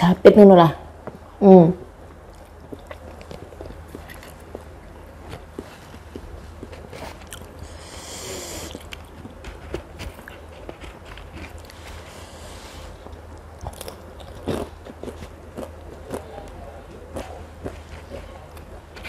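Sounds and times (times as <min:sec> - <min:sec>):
person chewing noodles: 0:02.2 - 0:18.8.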